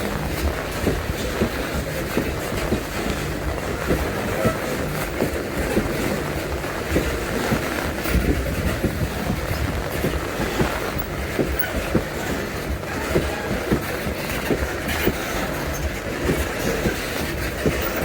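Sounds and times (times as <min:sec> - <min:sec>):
freight wagons rumbling: 0:00.0 - 0:18.0
train wheels clacking on rail joints: 0:00.0 - 0:18.0.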